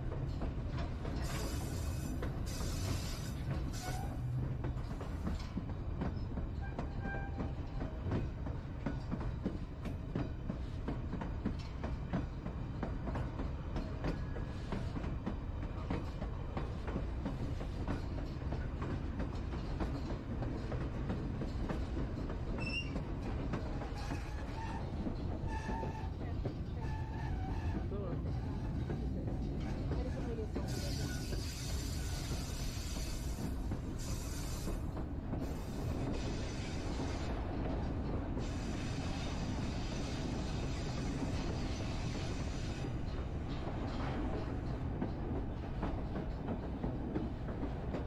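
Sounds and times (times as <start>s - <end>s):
train low rumble: 0.0s - 48.0s.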